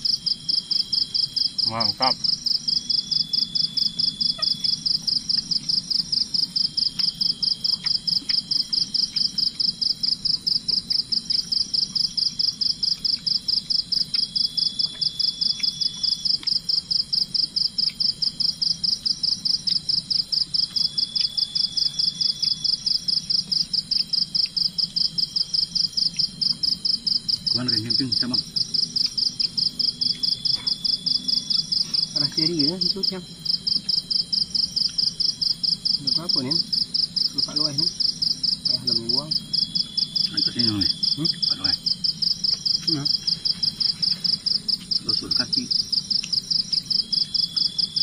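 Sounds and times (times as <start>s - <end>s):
faint drawn-out insect notes: 0.0s - 48.0s
insect pulsed chirping: 0.0s - 48.0s.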